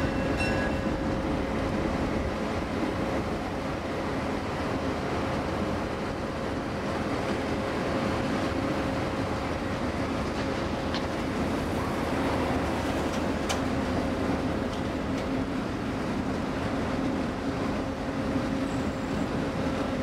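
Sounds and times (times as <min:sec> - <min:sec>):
diesel locomotive engine running: 0:00.0 - 0:20.0.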